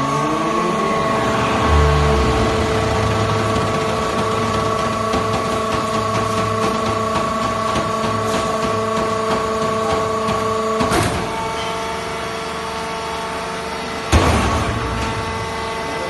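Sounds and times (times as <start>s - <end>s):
hydraulic unit humming and whining: 0.0s - 16.0s.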